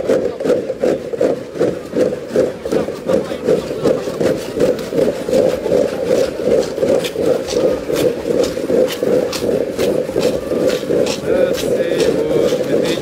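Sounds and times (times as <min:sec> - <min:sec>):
protest crowd din: 0:00.0 - 0:13.0.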